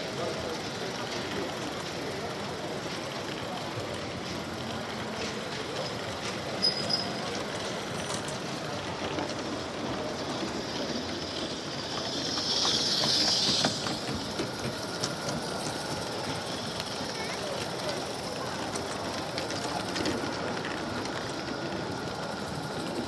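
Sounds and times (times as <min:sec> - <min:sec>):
hall background noise: 0:00.0 - 0:23.0
steam hissing: 0:00.0 - 0:23.0.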